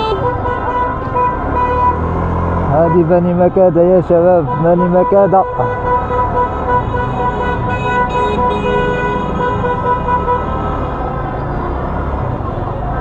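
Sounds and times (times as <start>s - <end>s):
car horns honking: 0.0s - 12.1s
rumble of traffic: 0.0s - 13.0s.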